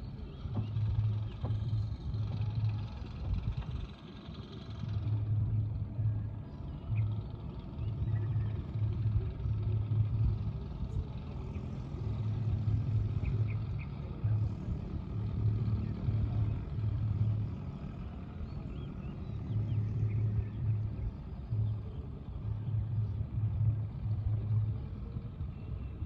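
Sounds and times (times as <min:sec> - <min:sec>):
low uneven rumble: 0:00.0 - 0:26.0.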